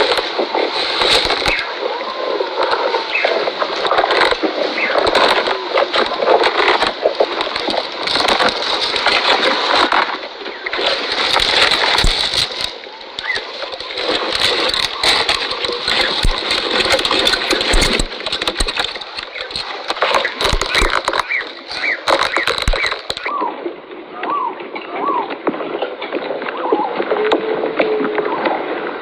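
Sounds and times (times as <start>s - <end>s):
camel chewing: 0.0s - 23.3s.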